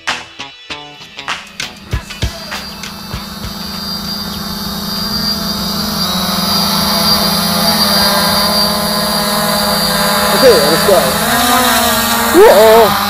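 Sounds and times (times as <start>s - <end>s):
quadcopter motors whining: 1.4s - 13.0s.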